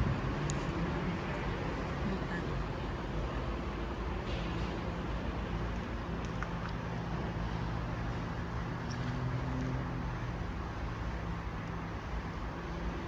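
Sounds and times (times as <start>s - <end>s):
constant background noise: 0.0s - 13.0s.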